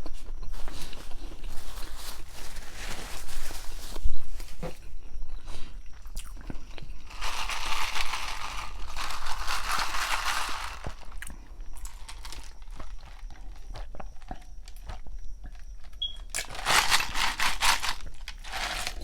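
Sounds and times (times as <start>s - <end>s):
crunching and chewing sandwich: 0.0s - 19.0s.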